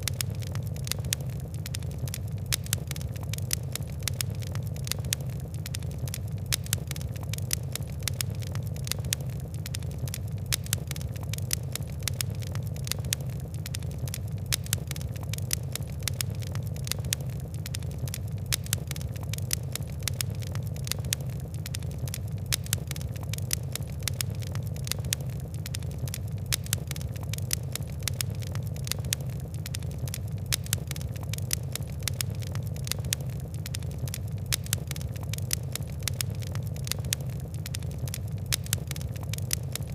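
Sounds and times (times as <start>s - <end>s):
fire crackling and popping: 0.0s - 39.9s
low burning roar: 0.0s - 39.9s.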